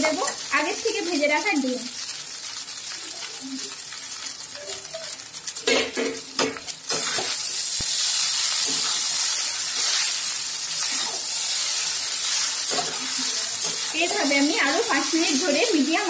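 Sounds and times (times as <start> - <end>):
noodles sizzling in a wok: 0.0 - 16.0.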